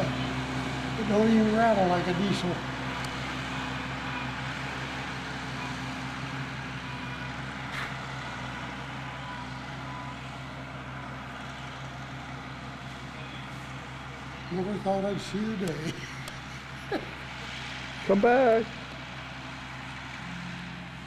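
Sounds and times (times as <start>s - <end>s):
diesel tractor engine running: 0.0s - 21.0s.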